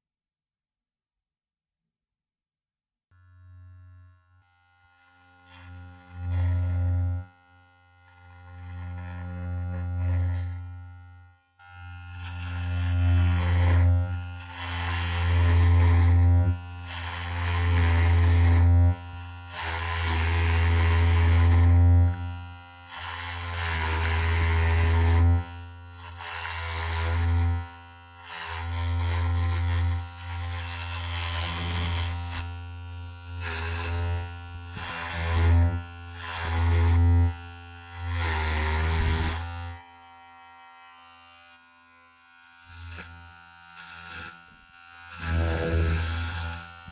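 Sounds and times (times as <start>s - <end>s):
electric hair clippers buzzing: 3.1s - 46.9s.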